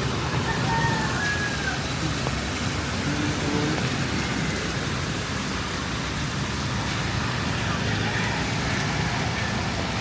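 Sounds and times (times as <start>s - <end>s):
hiss of rain-soaked street: 0.0s - 10.0s
low traffic rumble: 0.0s - 10.0s.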